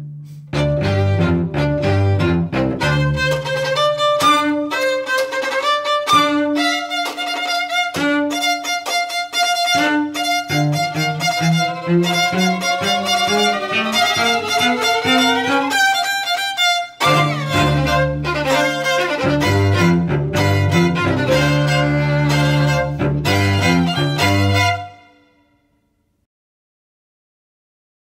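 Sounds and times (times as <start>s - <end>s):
cello low notes: 0.0s - 25.2s
violins playing bowed notes: 0.5s - 25.5s.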